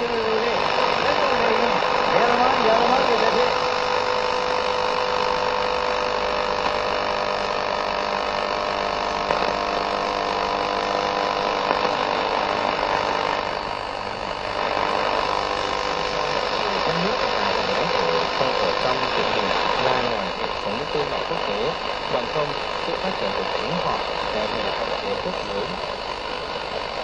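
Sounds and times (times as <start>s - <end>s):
faint radio programme: 0.0s - 27.0s
radio static hiss: 0.0s - 27.0s
weak distant radio stations: 0.0s - 27.0s.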